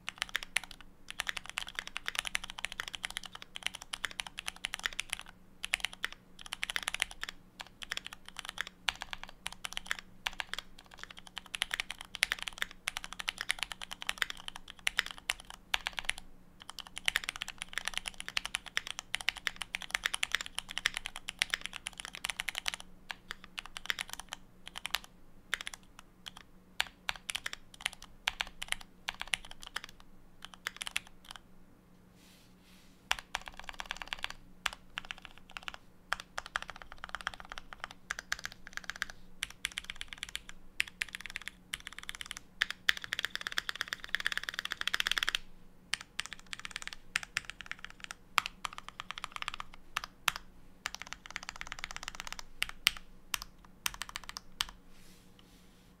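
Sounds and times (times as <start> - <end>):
mechanical keyboard typing: 0.0 - 31.4, 33.1 - 54.8.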